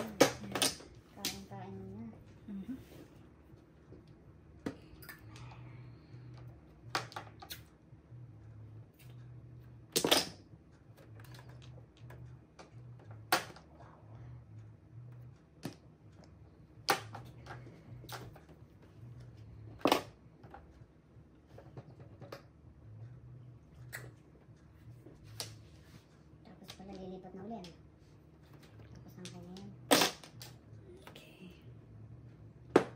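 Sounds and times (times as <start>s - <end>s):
faint low hum: 0.0s - 32.9s.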